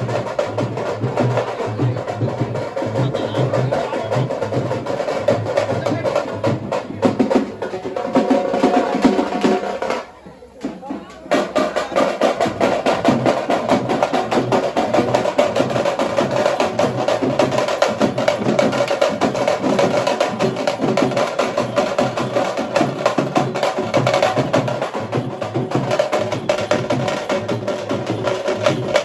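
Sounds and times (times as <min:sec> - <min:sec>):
fast frame drum beat: 0:00.0 - 0:29.0.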